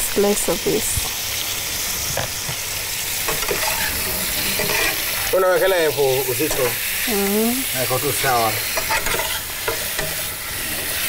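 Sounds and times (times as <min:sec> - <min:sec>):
ribs sizzling: 0:00.0 - 0:11.0.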